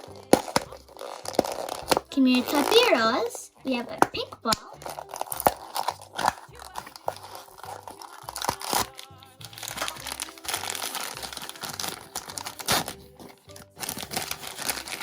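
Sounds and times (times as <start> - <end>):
background music: 0.0 - 15.0
plastic wrapping crinkling: 0.0 - 15.0.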